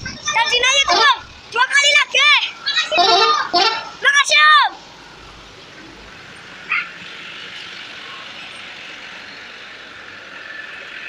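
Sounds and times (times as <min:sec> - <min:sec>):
road noise: 0:00.0 - 0:11.0
truck engine passing: 0:00.0 - 0:11.0.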